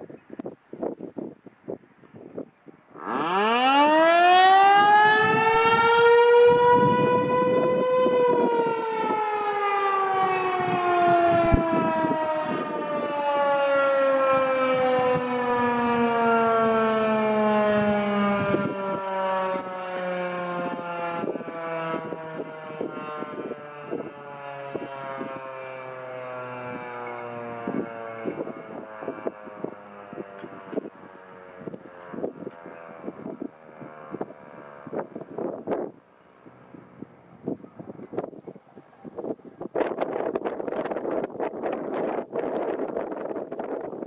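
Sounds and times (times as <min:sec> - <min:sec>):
wind buffeting microphone: 0:00.0 - 0:44.0
rotating siren wailing: 0:02.9 - 0:44.0.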